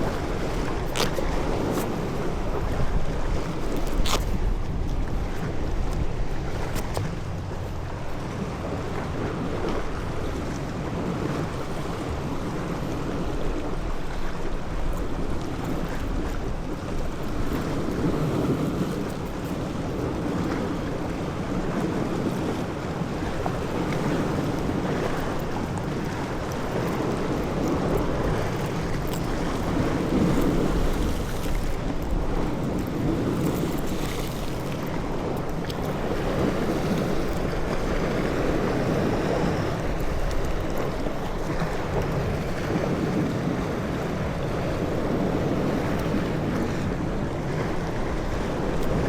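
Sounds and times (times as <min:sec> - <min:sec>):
sea water washing around boat: 0:00.0 - 0:49.0
wind buffeting microphone: 0:00.0 - 0:49.0.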